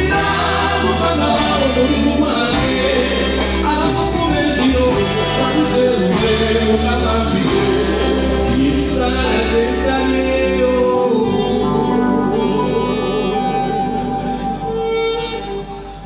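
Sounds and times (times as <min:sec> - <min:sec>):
heavy bass note: 0:00.0 - 0:16.0
live band playing: 0:00.0 - 0:16.0
person singing: 0:00.0 - 0:16.0.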